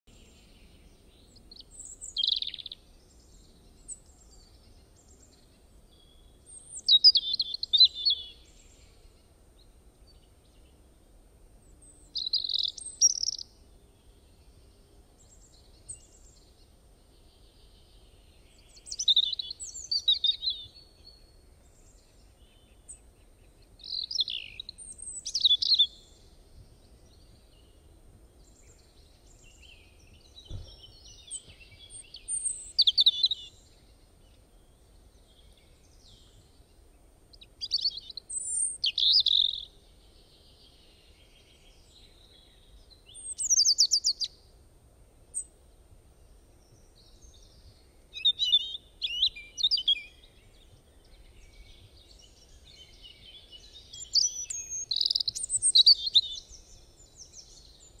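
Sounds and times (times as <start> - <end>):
songbird chirping: 0.0 - 58.0
faint steady hiss: 0.1 - 58.0.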